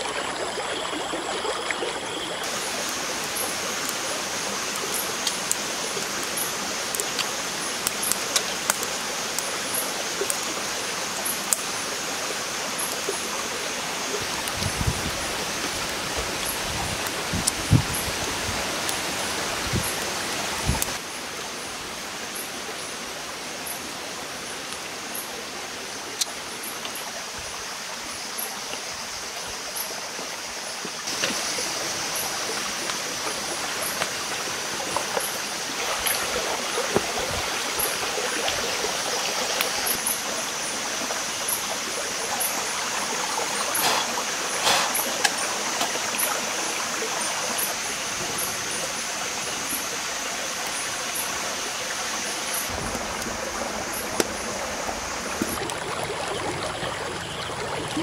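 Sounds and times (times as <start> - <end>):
steady hiss: 2.4 - 55.7.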